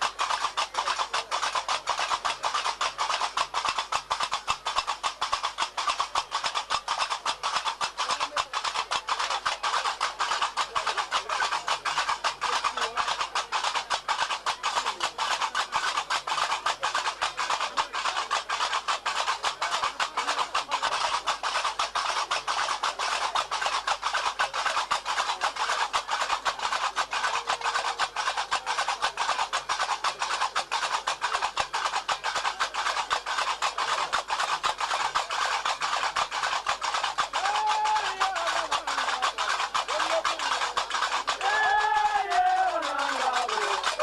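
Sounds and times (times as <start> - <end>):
iron castanets clattering: 0.0 - 44.0
ritual music: 0.0 - 44.0.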